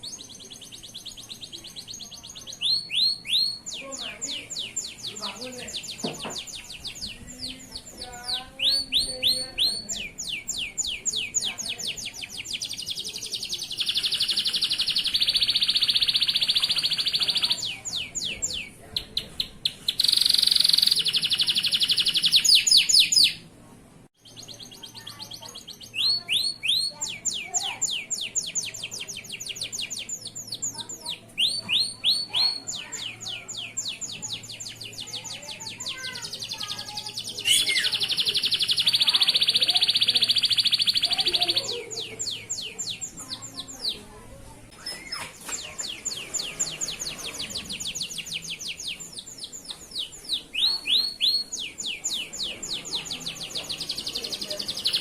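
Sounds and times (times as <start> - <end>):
canary singing trills: 0.0 - 23.5, 24.2 - 55.0.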